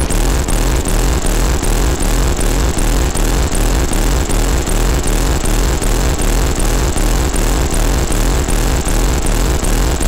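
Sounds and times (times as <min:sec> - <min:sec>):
pulsing electronic noise rumble: 0:00.0 - 0:10.0.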